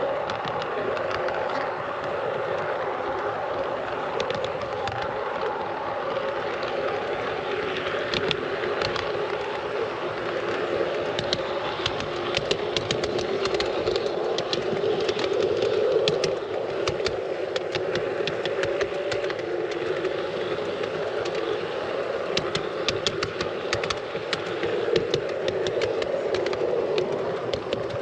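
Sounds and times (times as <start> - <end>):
model train motor hum: 0.0 - 28.0
wheels clicking over rail joints: 0.0 - 28.0.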